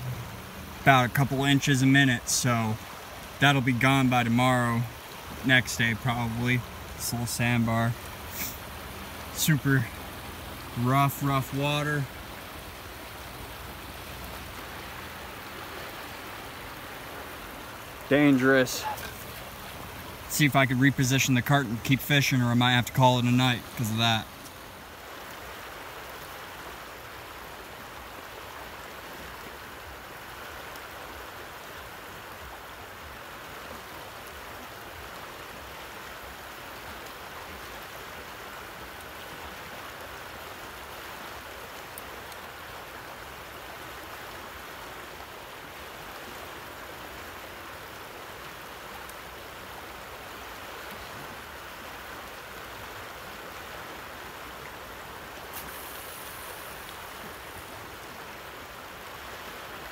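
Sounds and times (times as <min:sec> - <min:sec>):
river current rushing: 0:00.0 - 0:59.9.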